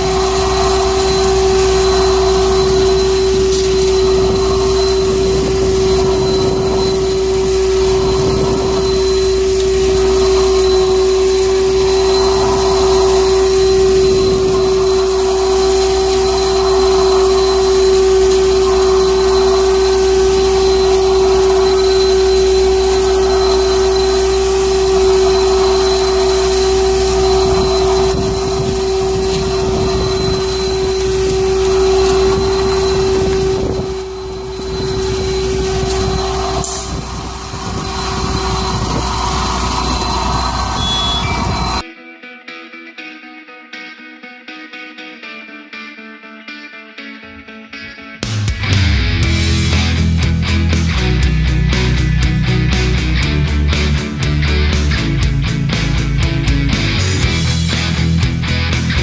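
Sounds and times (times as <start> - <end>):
construction machine engine: 0.0 - 41.8, 49.2 - 59.0
constant pitched whine: 0.0 - 41.9, 48.6 - 59.0.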